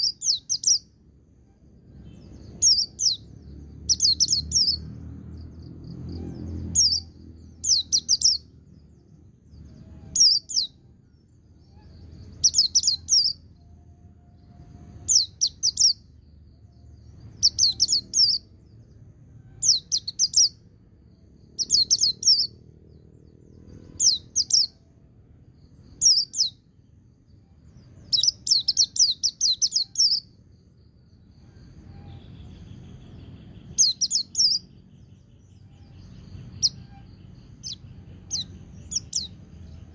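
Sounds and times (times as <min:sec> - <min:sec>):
bird trilling song: 0:00.0 - 0:39.9.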